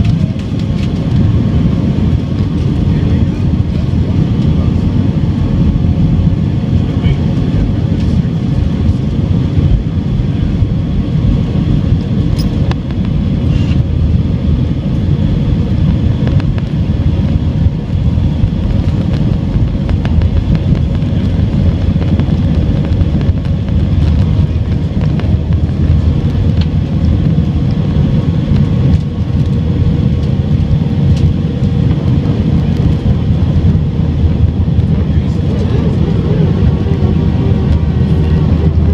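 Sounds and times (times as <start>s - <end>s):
jet engines roaring: 0.0s - 38.9s
wheels rumbling on runway: 0.0s - 38.9s.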